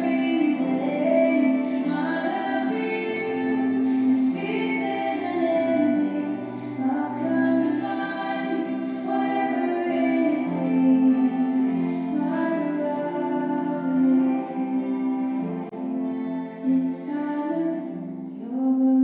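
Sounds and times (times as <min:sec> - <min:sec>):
soft instrumental accompaniment: 0:00.0 - 0:19.0
woman singing: 0:00.0 - 0:19.0.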